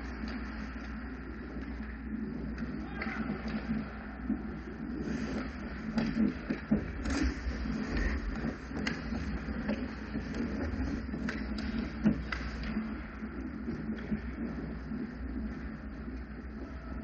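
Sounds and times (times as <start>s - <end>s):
hockey sticks and puck clacking: 0.0s - 4.0s, 4.6s - 16.7s
low hum: 0.0s - 17.0s
skates on ice: 0.0s - 17.0s.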